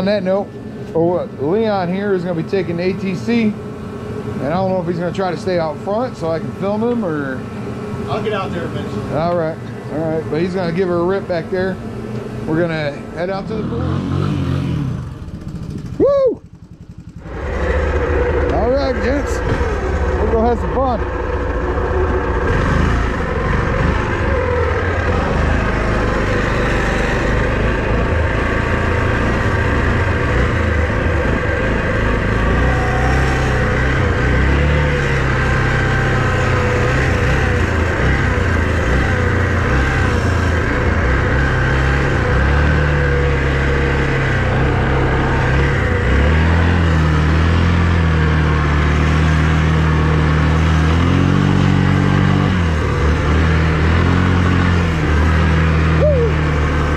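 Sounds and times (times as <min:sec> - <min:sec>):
all-terrain vehicle engine: 0:00.0 - 0:56.9.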